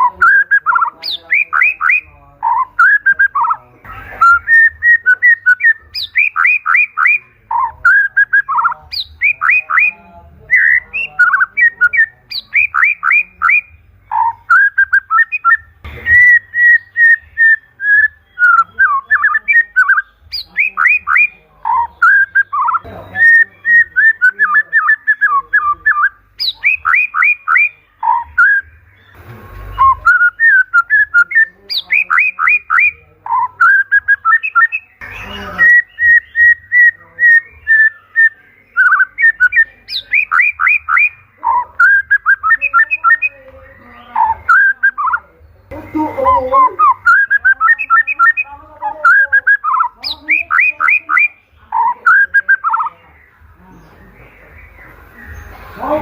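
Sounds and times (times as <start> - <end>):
bird singing whistled phrases: 0.0 - 53.3
bird chattering trills: 0.0 - 56.0.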